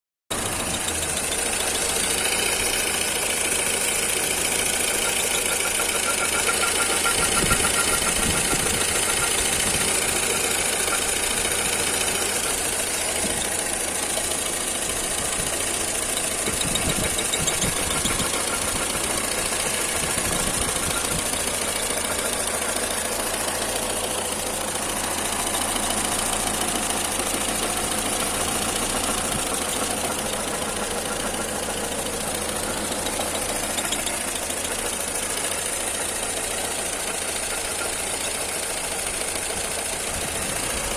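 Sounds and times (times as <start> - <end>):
engine running with knocking: 0.3 - 40.9.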